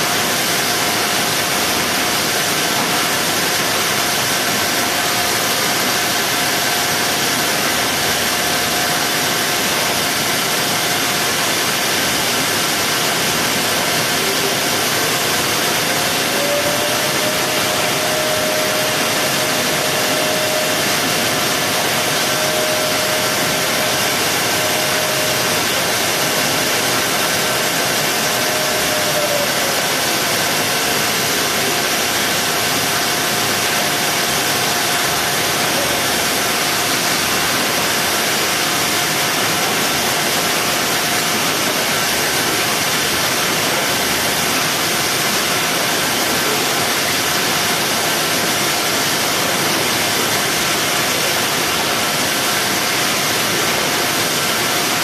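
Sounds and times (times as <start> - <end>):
loud machinery hiss: 0.0 - 55.0.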